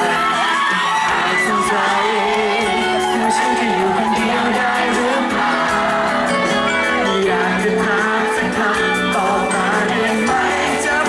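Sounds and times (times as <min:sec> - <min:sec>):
crowd shouting: 0:00.0 - 0:11.0
man singing into a microphone: 0:00.0 - 0:11.0.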